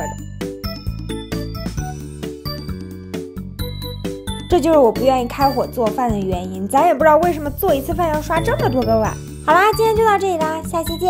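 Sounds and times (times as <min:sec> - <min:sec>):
bouncy background music: 0:00.0 - 0:11.0.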